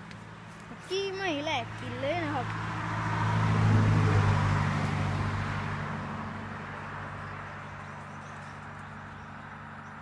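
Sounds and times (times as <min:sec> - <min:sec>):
vehicle engine hum: 0:00.0 - 0:10.0.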